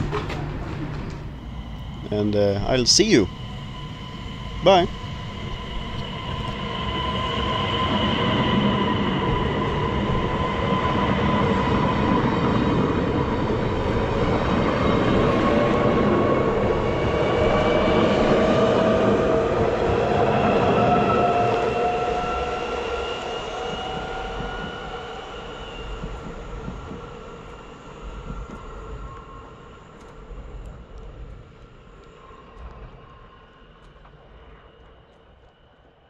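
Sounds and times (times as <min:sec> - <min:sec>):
electric train motors whining: 0:00.0 - 0:32.4
wheel-on-rail noise: 0:00.0 - 0:36.0.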